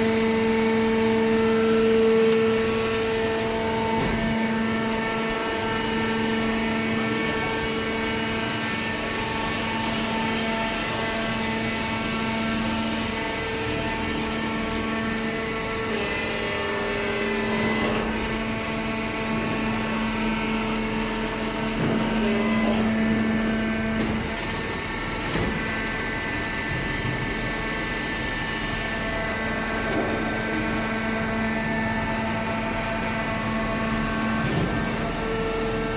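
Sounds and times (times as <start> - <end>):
hydraulic baler motor humming: 0.0 - 35.9.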